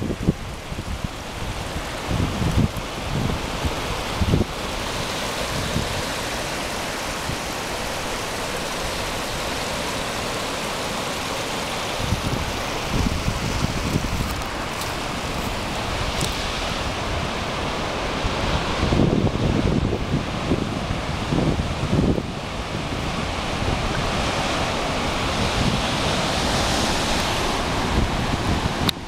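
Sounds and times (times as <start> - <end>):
surf breaking over rocks: 0.0 - 29.0
wind buffeting microphone: 0.0 - 29.0.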